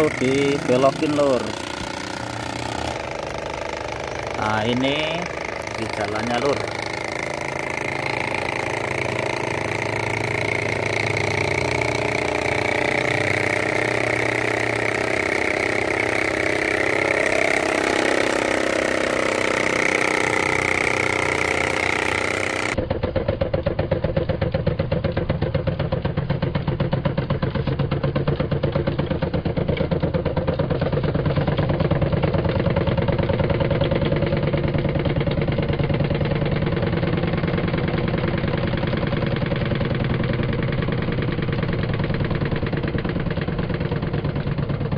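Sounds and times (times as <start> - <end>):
toy tractor engine chugging: 0.0 - 44.9.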